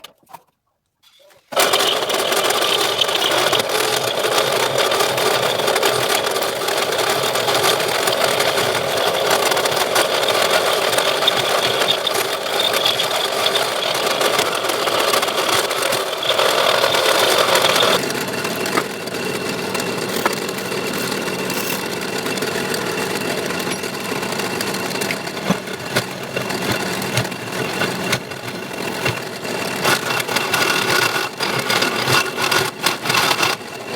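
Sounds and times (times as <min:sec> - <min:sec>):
lathe tool scraping workpiece: 0:01.5 - 0:33.9
electric drill motor running: 0:01.6 - 0:33.9.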